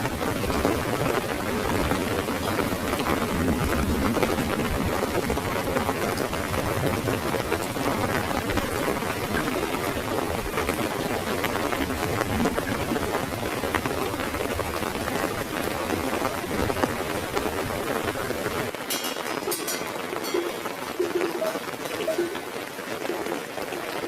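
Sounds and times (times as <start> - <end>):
rain on an umbrella: 0.0 - 24.0.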